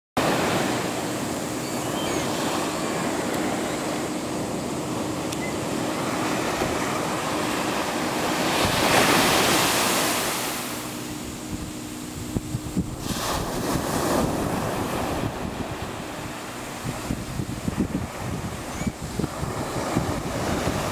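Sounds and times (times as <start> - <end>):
waves washing up a beach: 0.2 - 20.9.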